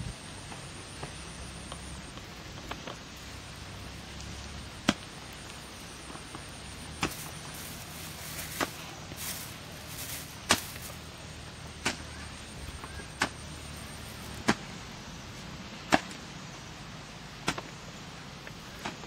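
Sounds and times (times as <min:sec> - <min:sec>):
faint background noise: 0:00.0 - 0:19.0.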